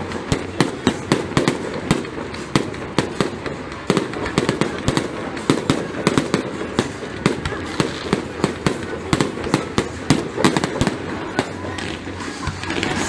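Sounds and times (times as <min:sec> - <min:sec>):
continuous hiss: 0:00.0 - 0:13.0
fireworks bangs and cracks: 0:00.0 - 0:13.0.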